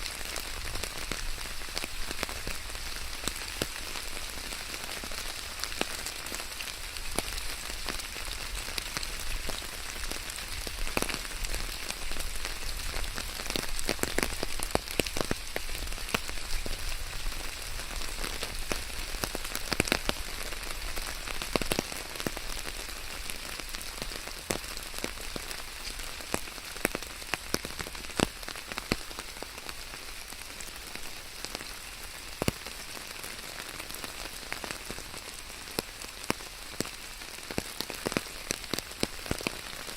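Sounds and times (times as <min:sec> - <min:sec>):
rain falling: 0:00.0 - 0:39.9
raindrops pattering close by: 0:00.0 - 0:39.9.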